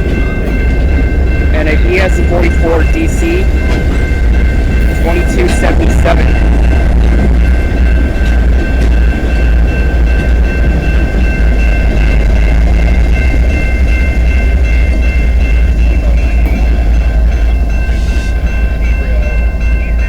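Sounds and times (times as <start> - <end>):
locomotives rumbling: 0.0 - 20.0.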